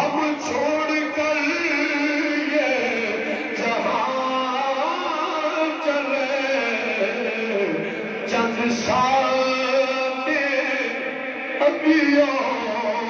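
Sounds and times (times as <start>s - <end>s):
man chanting through microphones: 0.0s - 13.0s.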